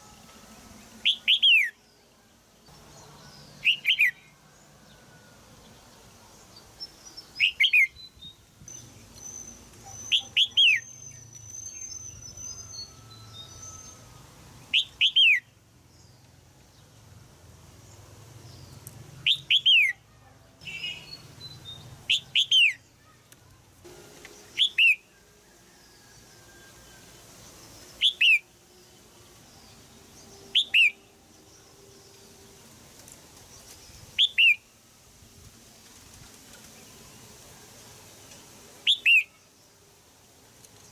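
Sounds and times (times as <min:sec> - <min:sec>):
faint high warbling bird song: 0:00.0 - 0:35.0, 0:36.6 - 0:40.9.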